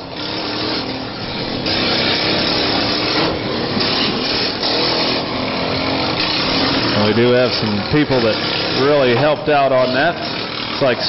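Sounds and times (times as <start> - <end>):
lawnmower engines revving: 0.0 - 11.0.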